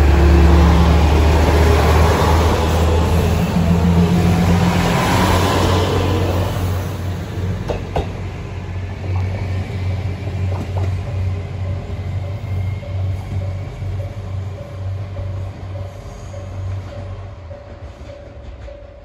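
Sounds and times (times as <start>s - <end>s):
diesel railcar pulling away: 0.0s - 19.0s.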